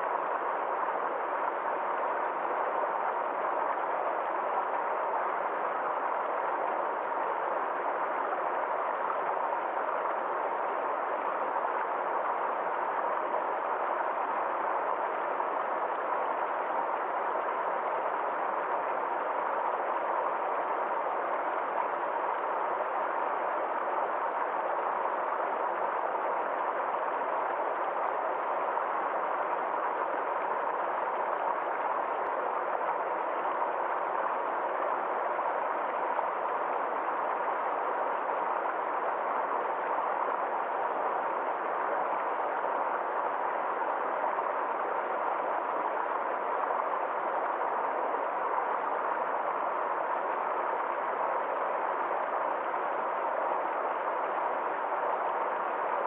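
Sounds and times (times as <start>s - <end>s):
forest stream flowing: 0.0s - 56.0s.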